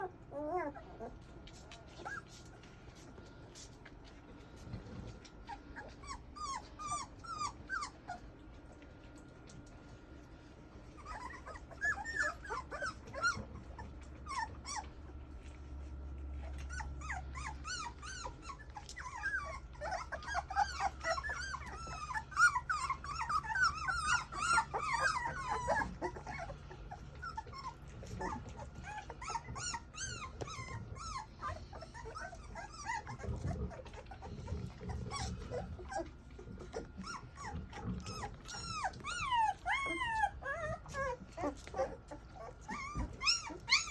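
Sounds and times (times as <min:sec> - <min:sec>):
puppies whimpering and squealing: 0:00.0 - 0:43.9.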